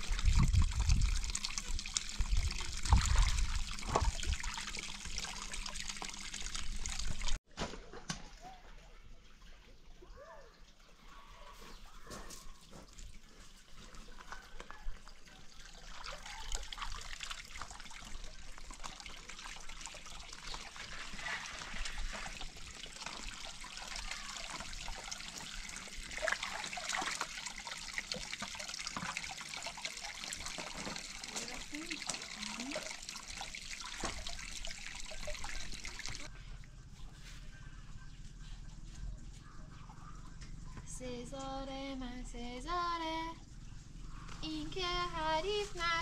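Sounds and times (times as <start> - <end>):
water trickling and splashing: 0.0 - 41.6, 42.3 - 46.0.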